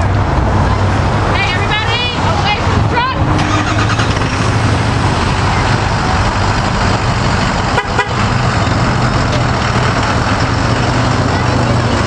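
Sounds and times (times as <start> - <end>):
pickup engine idling: 0.6 - 12.0.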